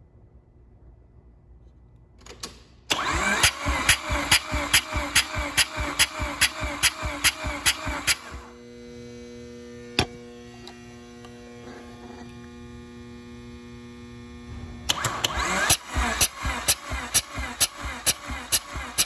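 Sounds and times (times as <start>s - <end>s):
electrical hum: 2.9s - 19.0s.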